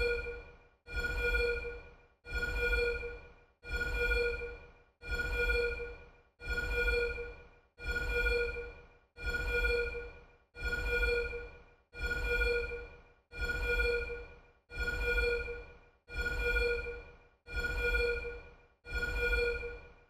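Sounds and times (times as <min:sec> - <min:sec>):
blaring alarm tone: 0:00.0 - 0:19.9.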